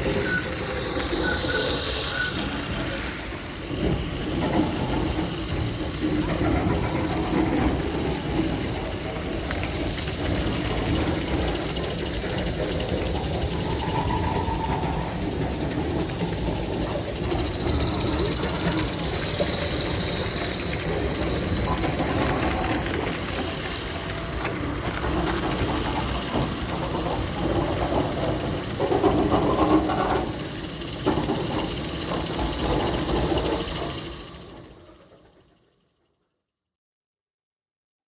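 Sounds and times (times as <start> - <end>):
steam locomotive clatter and hiss: 0.0 - 35.9.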